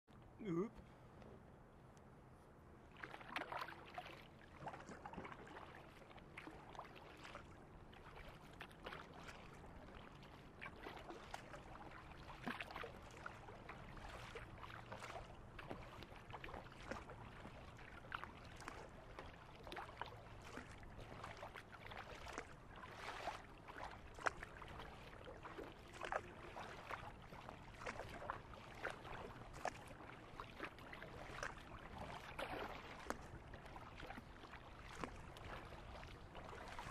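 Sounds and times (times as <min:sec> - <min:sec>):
water splashing against kayak: 0:02.8 - 0:36.9.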